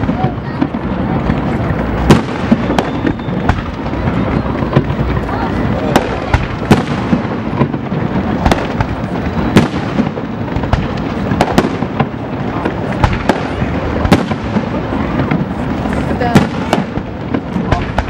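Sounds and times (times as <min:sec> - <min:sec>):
constant rumble: 0:00.0 - 0:18.0
firework shell bursts and crackling: 0:00.0 - 0:18.0.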